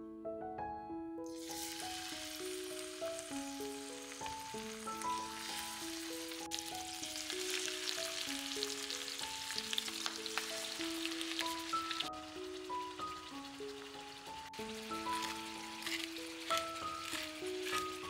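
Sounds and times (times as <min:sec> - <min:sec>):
background music melody: 0:00.0 - 0:18.0
food sizzling in a pan: 0:01.3 - 0:18.0.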